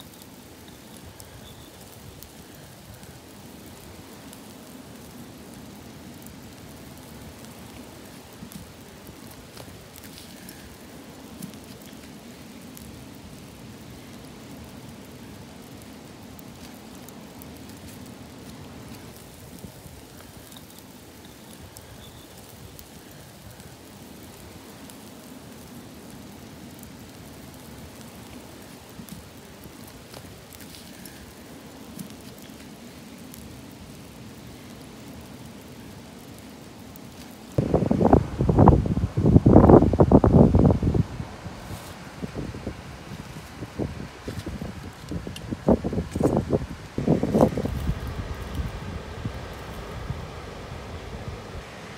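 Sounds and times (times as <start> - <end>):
charcoal embers crackling: 0.0 - 51.9.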